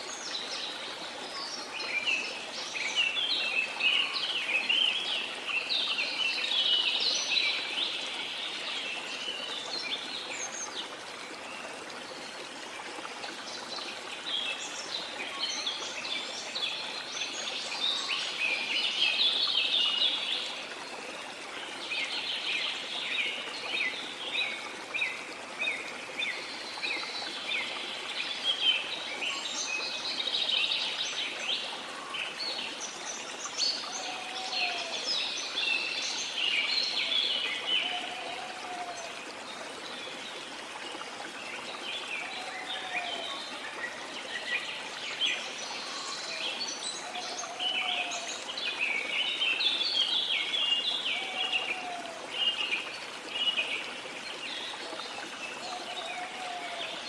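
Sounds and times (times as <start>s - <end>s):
small birds chirping and twittering: 0.0s - 57.0s.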